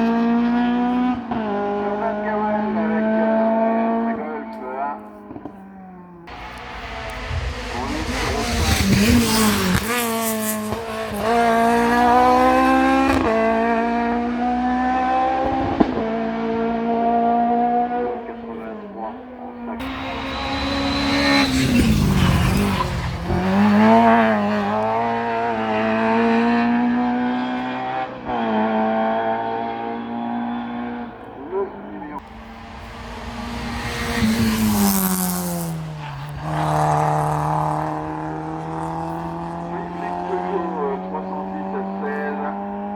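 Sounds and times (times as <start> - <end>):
race car accelerating: 0.0 - 42.9.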